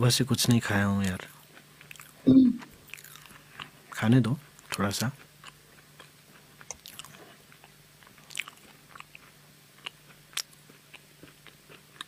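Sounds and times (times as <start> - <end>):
person chewing crunchy food: 1.0 - 12.0.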